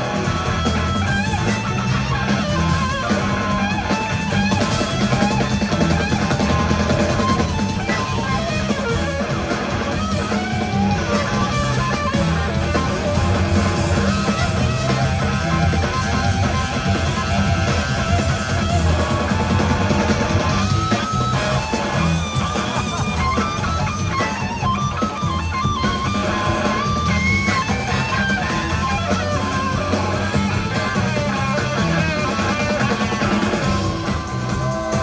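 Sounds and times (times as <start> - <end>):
live blues-rock band playing: 0.0 - 35.0
wavering electric guitar lead: 0.0 - 35.0.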